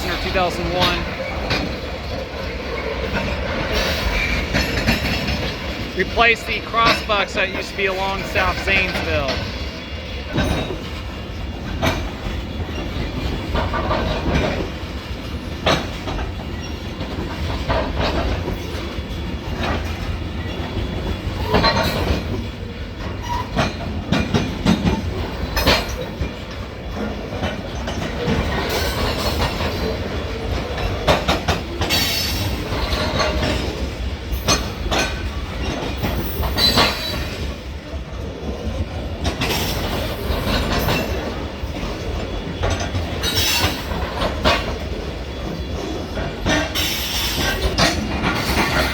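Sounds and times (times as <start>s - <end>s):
freight train rumbling past: 0.0s - 48.9s
wheels clanking over rail joints: 0.0s - 48.9s.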